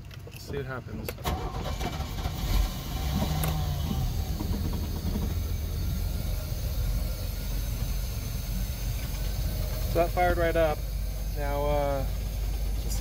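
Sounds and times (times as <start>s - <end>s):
boat engine starting and idling: 1.1s - 13.0s.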